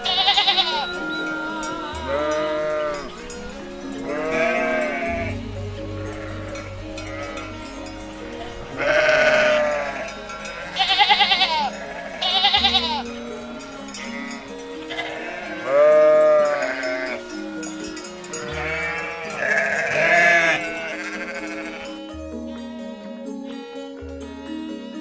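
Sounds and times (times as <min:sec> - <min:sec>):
sheep bleating: 0:00.0 - 0:03.2, 0:03.8 - 0:07.7, 0:08.3 - 0:17.4, 0:18.3 - 0:22.0
light background music: 0:00.0 - 0:25.0.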